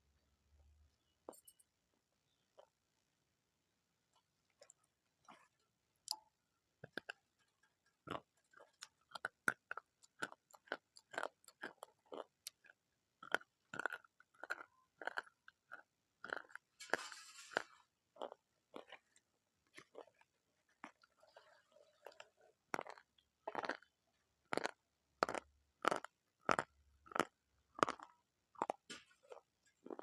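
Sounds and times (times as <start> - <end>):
crunchy food being chewed: 4.5 - 5.6, 6.8 - 30.0.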